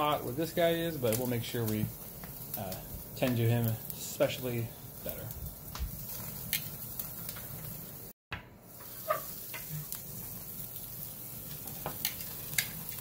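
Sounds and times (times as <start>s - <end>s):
fire crackles and pops: 0.0s - 13.0s
steaks sizzling on a grill: 0.0s - 13.0s.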